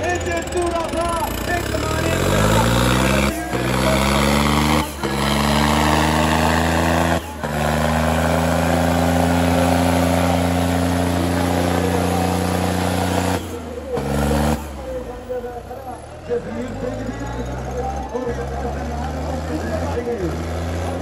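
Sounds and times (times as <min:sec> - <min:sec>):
tractor diesel engine at full throttle: 0:00.0 - 0:21.0.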